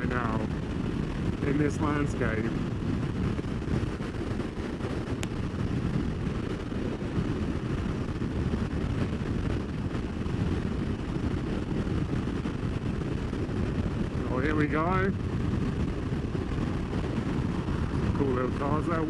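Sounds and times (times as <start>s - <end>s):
motorcycle engine drone: 0.0s - 19.0s
wind rush: 0.0s - 19.0s.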